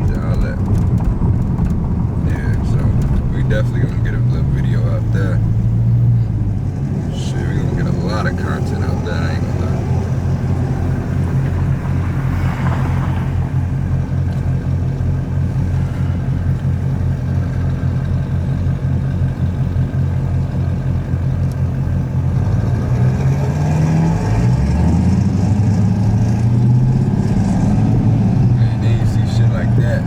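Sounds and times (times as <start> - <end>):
engine exhaust revving: 0.0 - 30.0.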